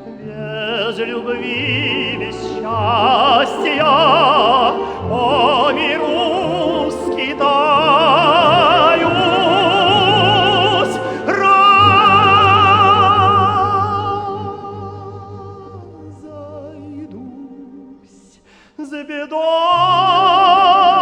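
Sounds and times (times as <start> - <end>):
man singing folk song with vibrato: 0.0 - 21.0.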